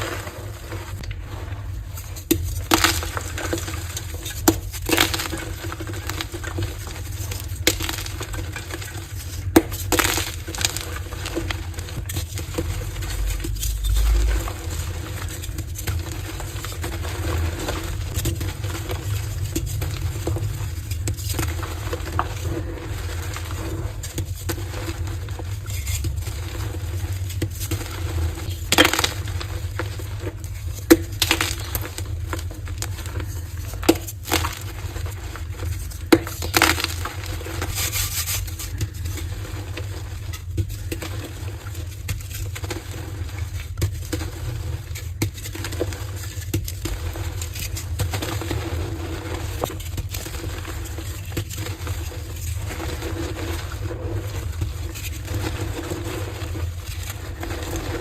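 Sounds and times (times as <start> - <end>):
chalk crunching and crackling: 0.0 - 58.0.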